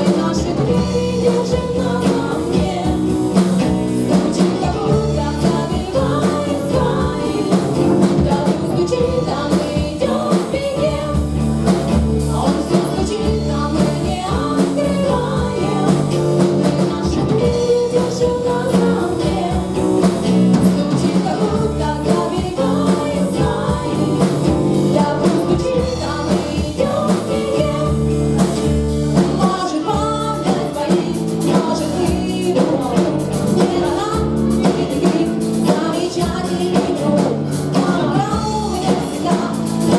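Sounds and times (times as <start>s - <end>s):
bass guitar: 0.0s - 39.9s
drums: 0.0s - 39.9s
electric guitar: 0.0s - 39.9s
person singing: 0.0s - 39.9s.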